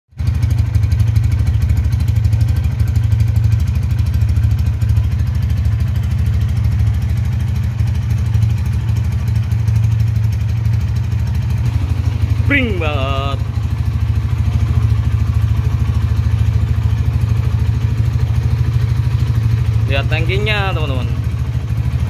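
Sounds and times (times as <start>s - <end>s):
motorcycle engine idling: 0.2s - 22.0s.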